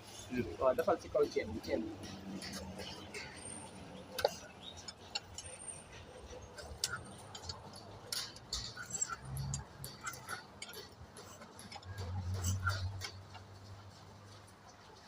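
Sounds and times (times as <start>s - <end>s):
metal tools clinking: 0.1s - 13.7s.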